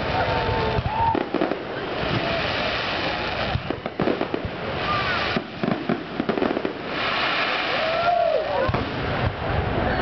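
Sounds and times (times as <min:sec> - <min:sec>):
firework bangs: 0:00.0 - 0:10.0
firework crackling: 0:00.0 - 0:10.0.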